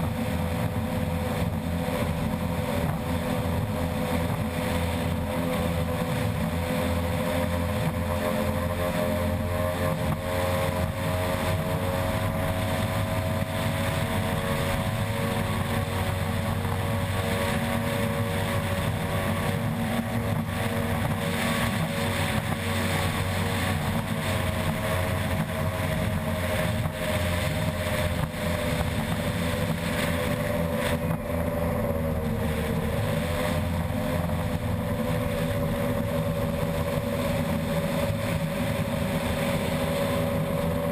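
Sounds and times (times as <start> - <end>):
outboard engine at high speed: 0.0 - 40.9.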